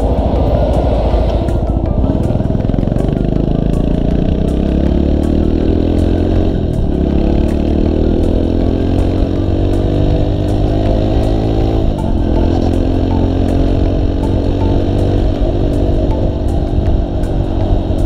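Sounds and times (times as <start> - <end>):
motorcycle engine shifting gears: 0.0 - 18.0.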